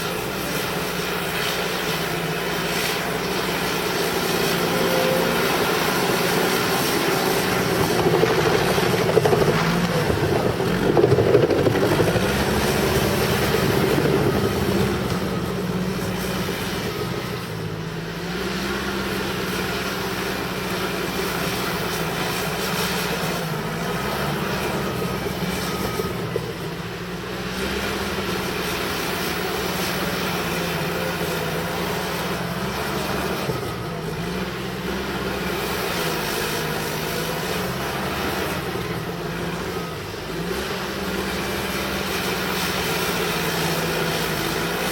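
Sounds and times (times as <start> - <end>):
bulldozer diesel engine under load: 0.0 - 44.9.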